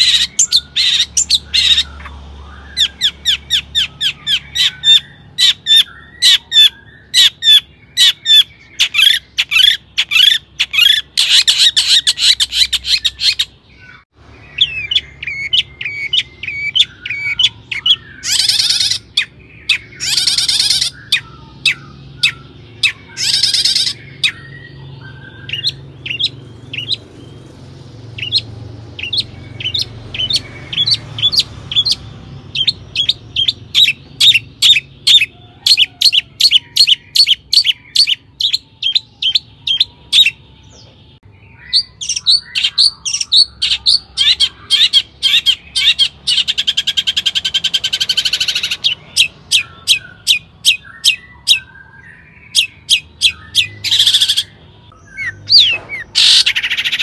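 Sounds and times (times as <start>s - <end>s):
harsh rasping bird calls: 0.0s - 57.0s.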